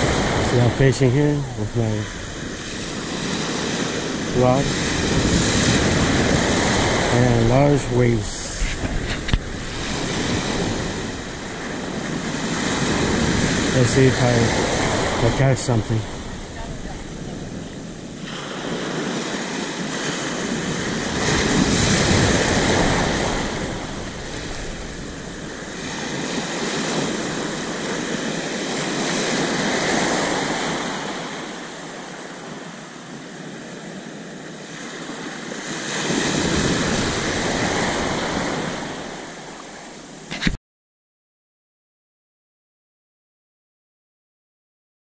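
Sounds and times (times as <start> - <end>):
wind on microphone: 0.0 - 31.5, 34.9 - 40.6
waves breaking on beach: 0.0 - 40.6.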